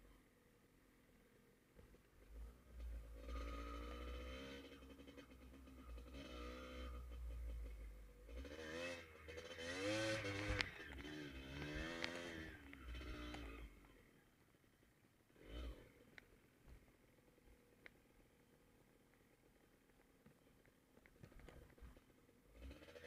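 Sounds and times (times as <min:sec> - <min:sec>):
vehicle engine running: 0:01.7 - 0:23.0.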